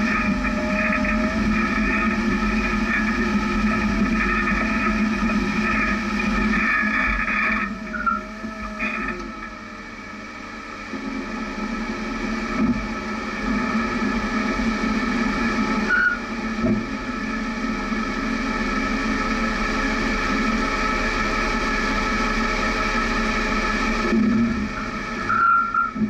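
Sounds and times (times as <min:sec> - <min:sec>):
engine running at low revs: 0:00.0 - 0:26.0.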